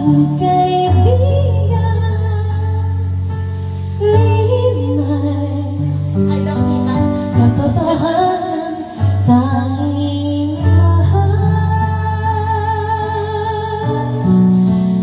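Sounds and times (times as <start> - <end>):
instrumental backing track: 0.0 - 15.0
woman singing a slow ballad: 0.0 - 15.0.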